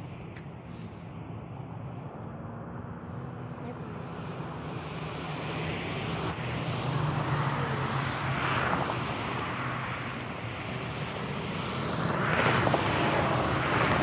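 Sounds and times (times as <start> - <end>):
distant engine rushing: 0.0 - 14.0.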